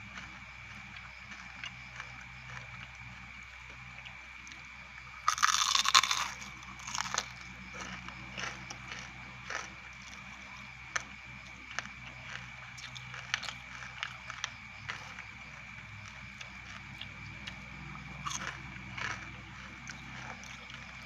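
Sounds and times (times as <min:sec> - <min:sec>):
crunching fried insects: 0:00.0 - 0:21.0.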